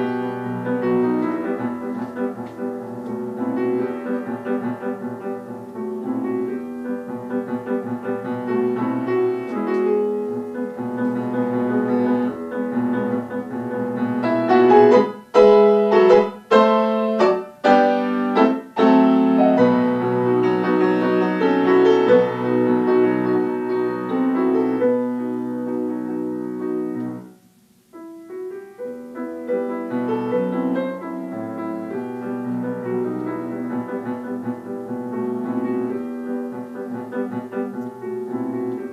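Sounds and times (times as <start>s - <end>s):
solo piano: 0.0s - 38.9s.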